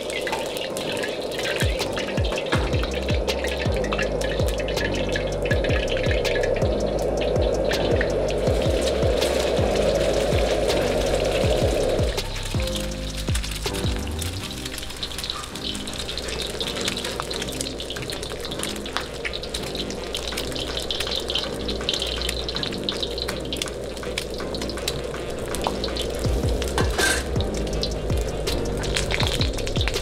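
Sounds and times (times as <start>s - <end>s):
background music: 0.0s - 30.0s
eggs sizzling in hot oil: 0.0s - 30.0s.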